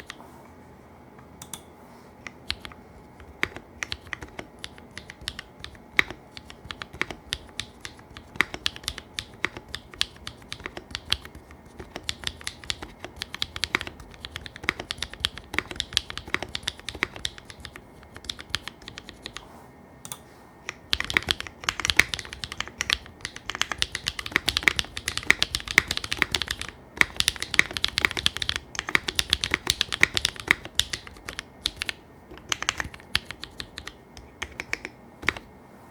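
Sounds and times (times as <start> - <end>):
mechanical keyboard key clacks: 2.5 - 19.4, 20.7 - 35.4.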